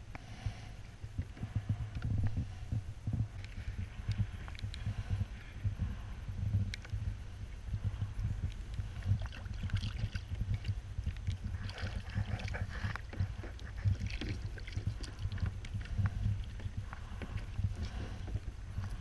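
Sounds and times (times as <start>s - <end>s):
wind rumbling on microphone: 0.0s - 19.0s
water slapping hull: 0.2s - 19.0s.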